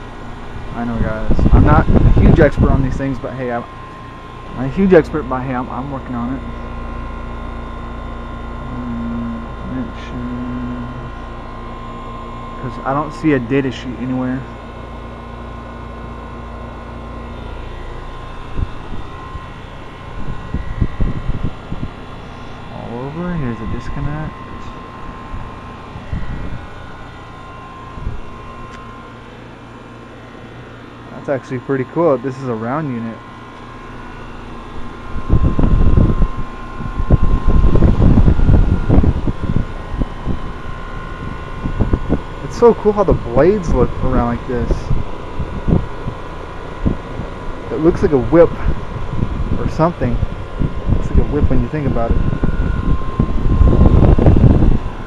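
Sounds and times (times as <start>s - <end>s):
air conditioner unit running: 0.0s - 55.0s.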